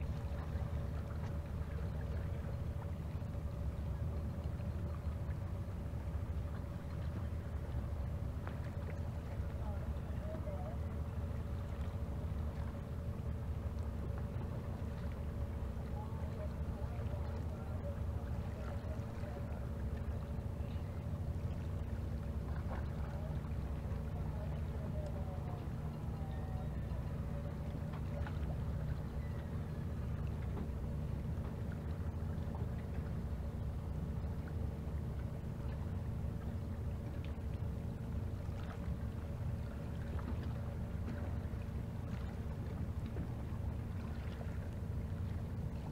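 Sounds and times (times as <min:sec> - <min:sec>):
boat engine rumble underwater: 0:00.0 - 0:45.9
faint steady hum: 0:00.0 - 0:45.9
faint steady tone: 0:00.0 - 0:45.9.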